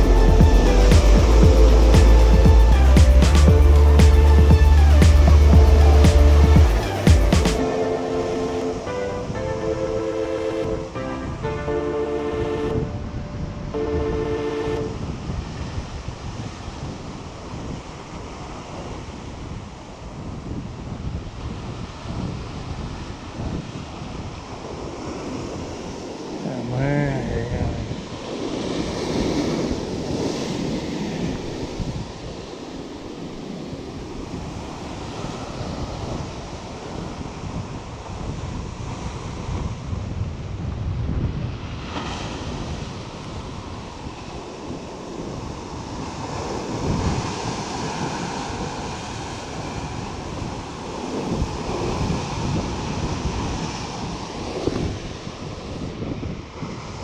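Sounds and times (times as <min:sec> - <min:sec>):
wind buffeting microphone: 0:00.0 - 0:11.7, 0:12.4 - 0:57.0
sea surf breaking over rocks: 0:00.0 - 0:57.0.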